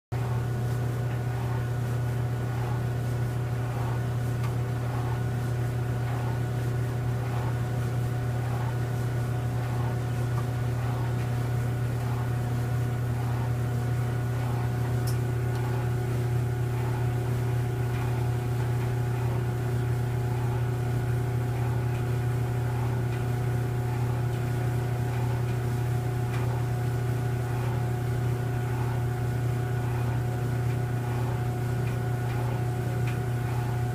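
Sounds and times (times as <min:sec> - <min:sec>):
clothes dryer tumbling: 0:00.1 - 0:33.9.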